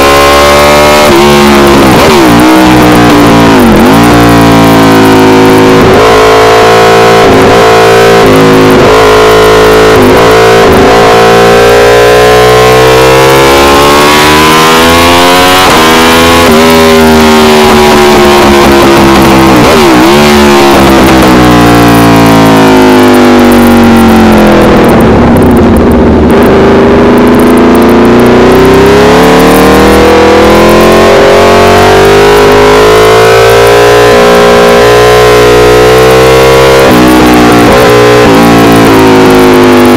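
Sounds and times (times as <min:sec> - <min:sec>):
motorcycle engine at full throttle: 0:00.0 - 0:39.9.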